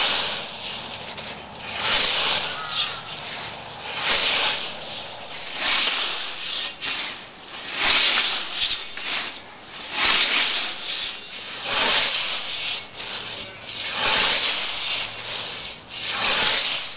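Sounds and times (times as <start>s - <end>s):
scythe swishing through plants: 0.0s - 16.9s.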